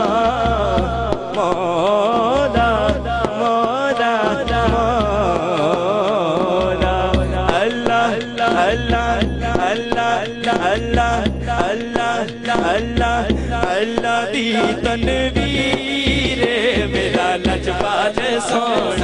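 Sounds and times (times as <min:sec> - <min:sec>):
hand drum beat: 0:00.0 - 0:19.0
man singing into microphone: 0:00.0 - 0:19.0.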